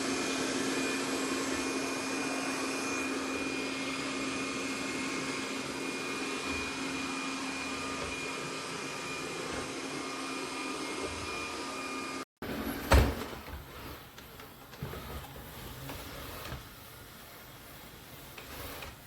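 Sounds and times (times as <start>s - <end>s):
robot vacuum cleaner whirring: 0.0s - 19.0s.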